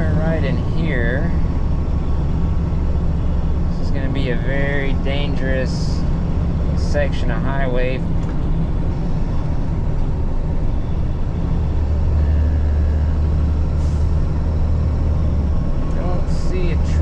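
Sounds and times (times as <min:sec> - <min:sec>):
truck engine and road drone: 0:00.0 - 0:17.0.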